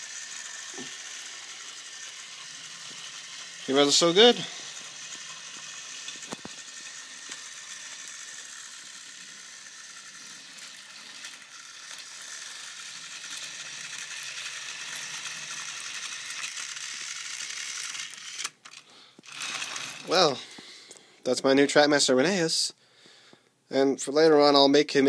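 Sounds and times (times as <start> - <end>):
toy train motor whirring: 0.0 - 21.0.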